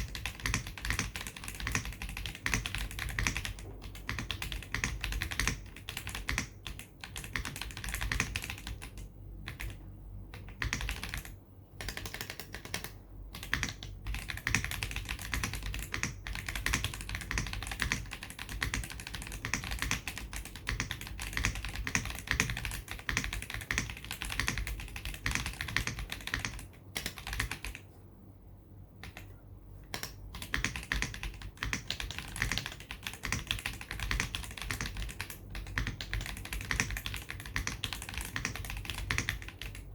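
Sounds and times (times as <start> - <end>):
mechanical keyboard typing: 0.0 - 27.8, 29.0 - 39.9.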